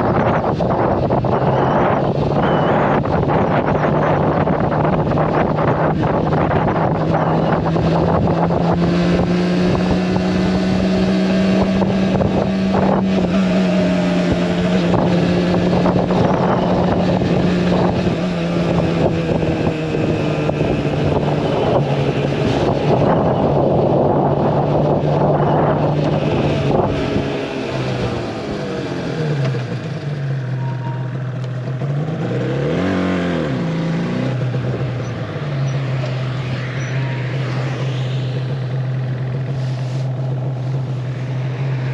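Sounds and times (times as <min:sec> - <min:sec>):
wind noise on microphone: 0:00.0 - 0:30.0, 0:31.9 - 0:41.9
motorcycle engine running: 0:00.0 - 0:41.9.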